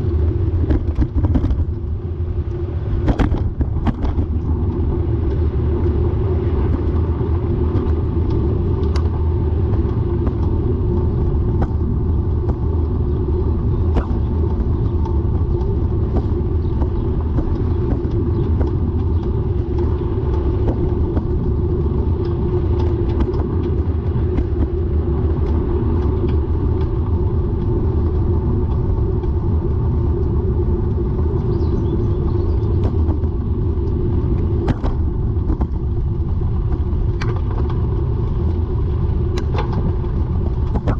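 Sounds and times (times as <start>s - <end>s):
bicycle clicking: 0.0s - 40.9s
road and wind rumble: 0.0s - 40.9s.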